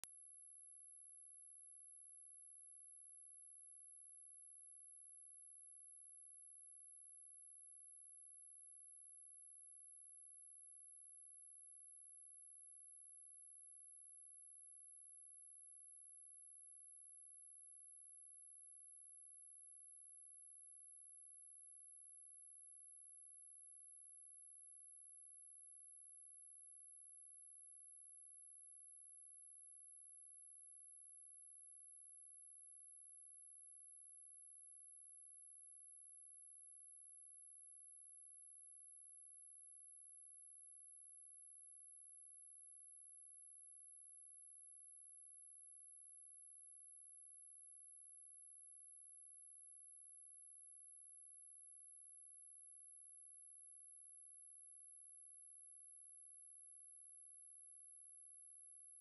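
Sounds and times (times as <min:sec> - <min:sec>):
high-pitched sine test tone: 0:00.0 - 0:59.0.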